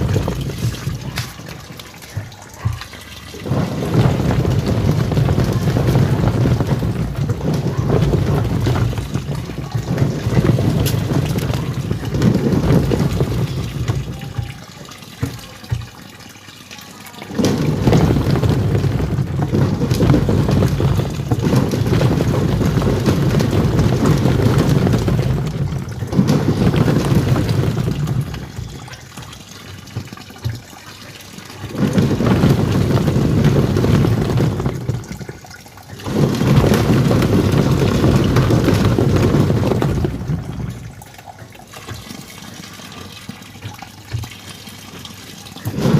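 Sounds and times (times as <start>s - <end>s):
washing machine churning water: 0.0s - 45.9s.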